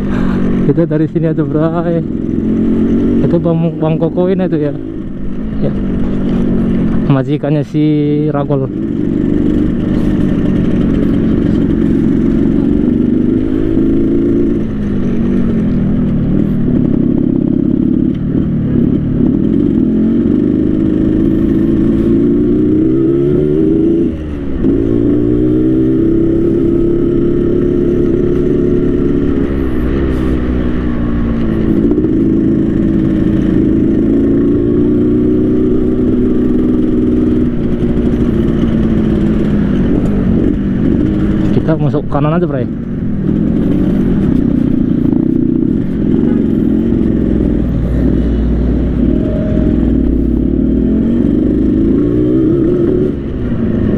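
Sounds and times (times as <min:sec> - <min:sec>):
two-stroke motorcycle revving: 0:00.0 - 0:53.9.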